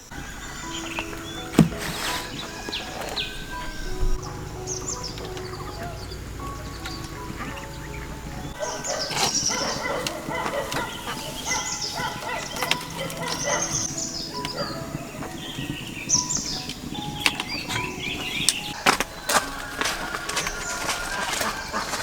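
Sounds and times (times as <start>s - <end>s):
background music with held notes: 0.0s - 22.0s
high chirping calls: 0.0s - 22.0s.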